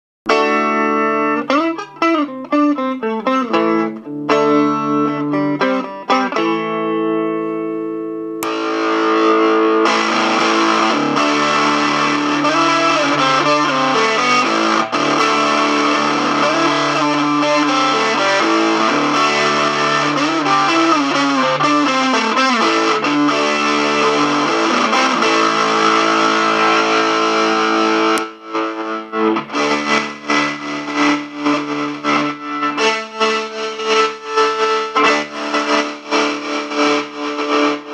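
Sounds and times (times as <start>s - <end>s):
electric guitar through effects: 0.3s - 37.9s.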